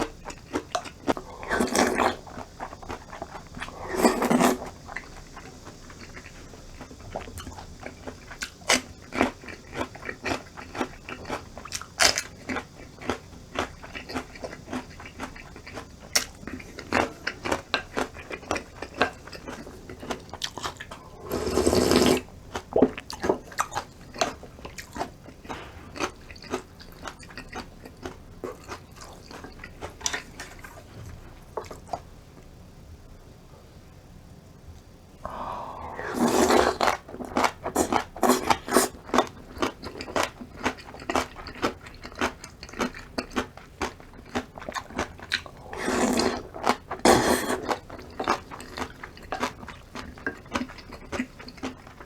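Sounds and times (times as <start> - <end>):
chewing with sharp crunches: 0.0 - 32.1, 35.8 - 52.0.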